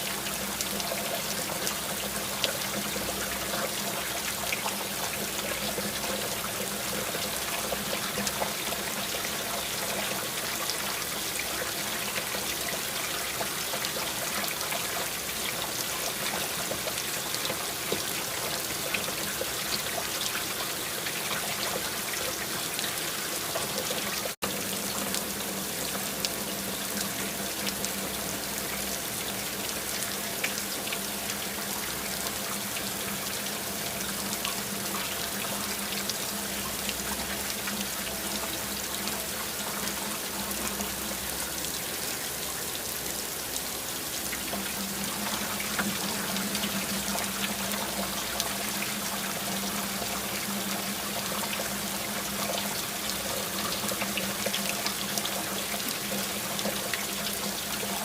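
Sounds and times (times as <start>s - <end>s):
steady rain: 0.0s - 58.0s
trickling water: 0.0s - 58.0s.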